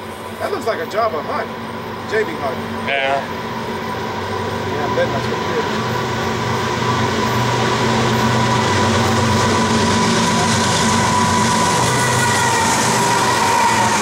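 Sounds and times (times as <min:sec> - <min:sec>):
diesel locomotive engines droning: 0:00.0 - 0:14.0
wheels on rail: 0:00.0 - 0:14.0.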